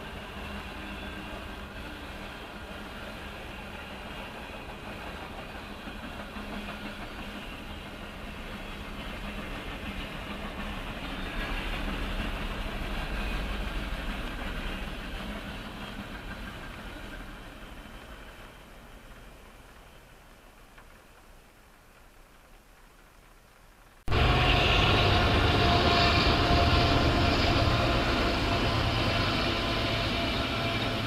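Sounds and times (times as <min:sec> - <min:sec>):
freight train rumbling past: 0:00.0 - 0:21.2, 0:24.1 - 0:31.0.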